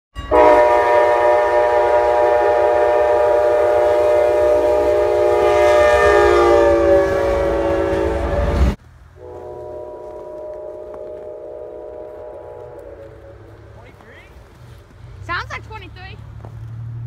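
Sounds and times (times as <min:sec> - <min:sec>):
train air horn blast: 0:00.2 - 0:14.0
train rumbling: 0:00.2 - 0:17.0.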